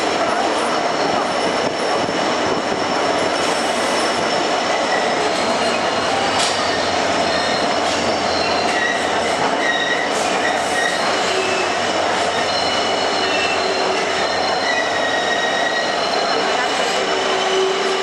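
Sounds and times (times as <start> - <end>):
train wheels rumbling on rails: 0.0 - 18.0
high-pitched wheel squeals: 2.7 - 18.0.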